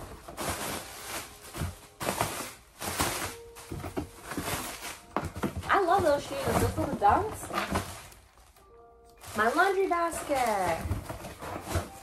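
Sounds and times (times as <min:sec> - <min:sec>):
cardboard box rustling: 0:00.0 - 0:08.6, 0:09.2 - 0:12.0
plastic packaging crinkling: 0:00.0 - 0:12.0.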